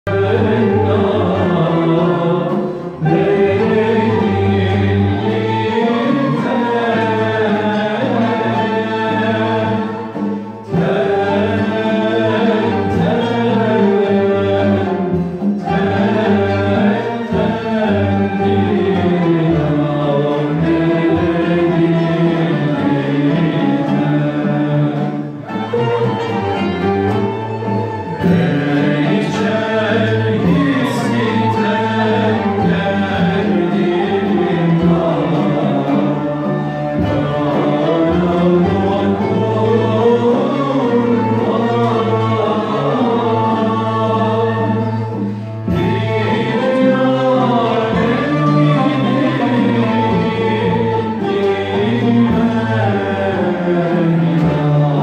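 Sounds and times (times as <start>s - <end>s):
bowed cello: 0.0s - 55.0s
group of voices singing together: 0.0s - 55.0s.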